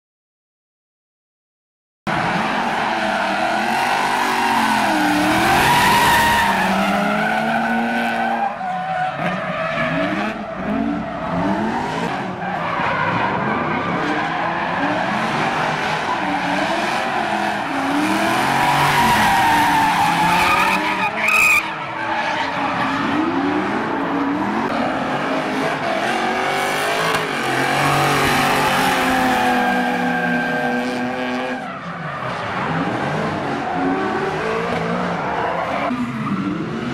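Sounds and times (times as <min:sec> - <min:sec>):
car engines revving: 0:02.1 - 0:36.9
tyres skidding on tarmac: 0:02.1 - 0:36.9.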